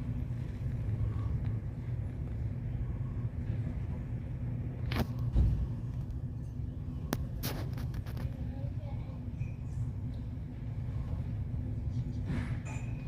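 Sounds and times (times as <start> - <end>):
engine rumble: 0.0 - 13.0
faint constant hum: 0.0 - 13.0.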